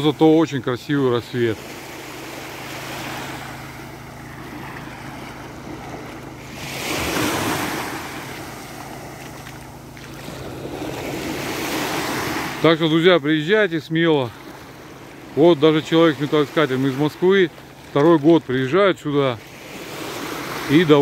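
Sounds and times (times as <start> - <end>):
small waves lapping on sandy beach: 0.0 - 21.0.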